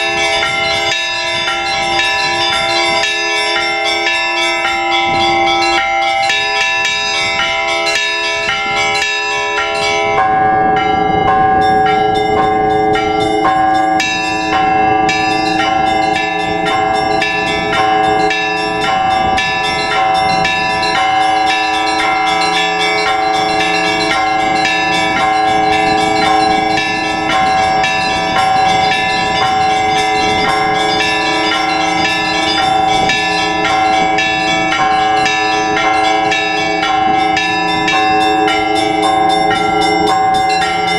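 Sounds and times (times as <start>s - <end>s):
low bell tolling: 0.0s - 40.9s
middle bells ringing: 0.0s - 40.9s
small bells striking quickly: 0.0s - 40.9s.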